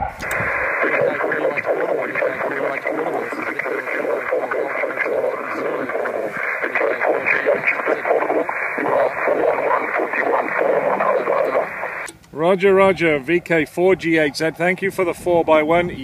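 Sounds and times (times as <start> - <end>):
hissy buzzing radio voice: 0.0 - 16.0.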